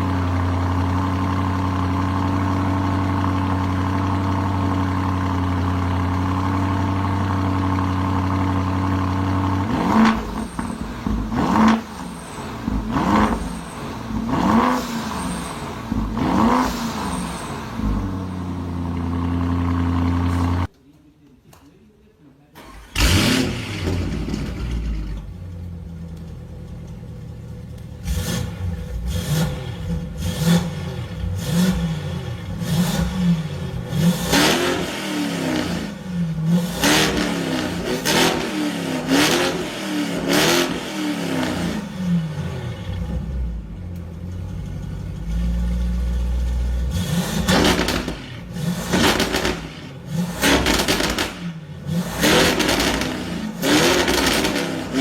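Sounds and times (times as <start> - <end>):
car engine idling and revving: 0.0 - 20.7, 22.7 - 55.0.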